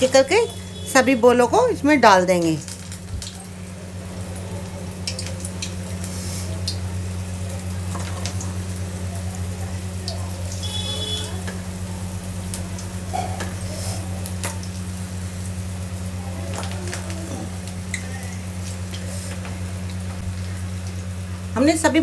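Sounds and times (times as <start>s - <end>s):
oil sizzling and bubbling: 0.0s - 22.0s.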